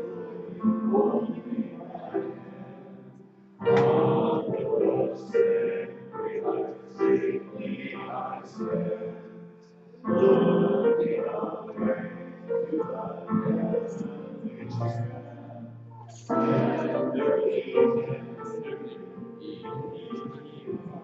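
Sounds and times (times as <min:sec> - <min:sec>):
piano accompaniment: 0:00.0 - 0:21.0
voices singing a hymn: 0:00.0 - 0:21.0.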